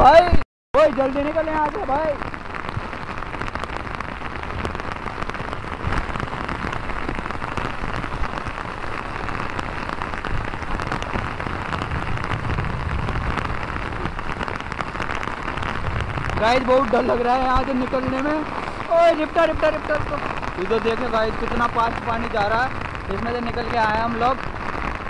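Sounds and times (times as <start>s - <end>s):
heavy rain pouring: 0.0s - 25.0s
rushing floodwater: 0.0s - 25.0s.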